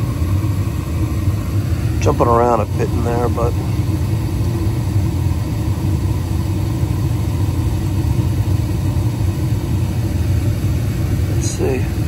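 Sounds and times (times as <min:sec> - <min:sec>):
gas furnace low rumble: 0:00.0 - 0:12.0.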